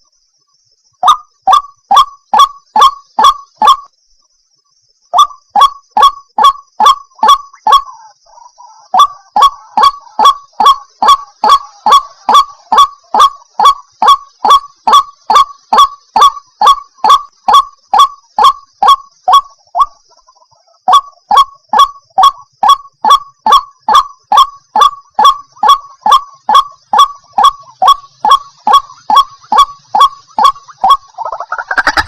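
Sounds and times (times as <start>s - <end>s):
waterhen calling: 5.2s - 32.0s.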